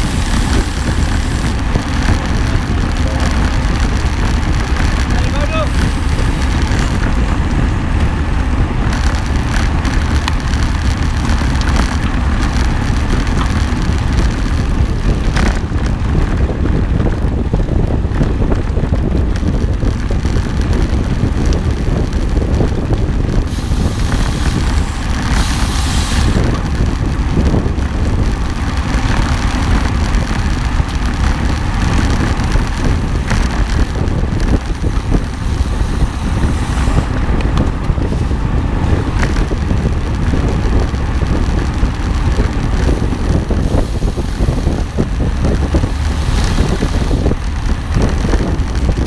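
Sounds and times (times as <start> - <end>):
vehicle rumbling on the move: 0.0 - 49.0
wind buffeting microphone: 0.0 - 49.0.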